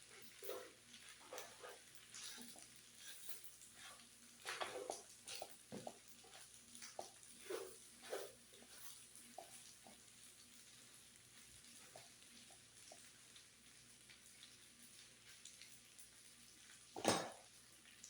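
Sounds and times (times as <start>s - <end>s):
faint sizzle: 0.0s - 18.0s.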